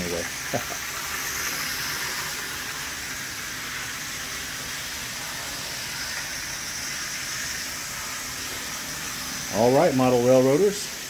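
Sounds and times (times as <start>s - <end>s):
model train motor whirring: 0.0s - 11.0s.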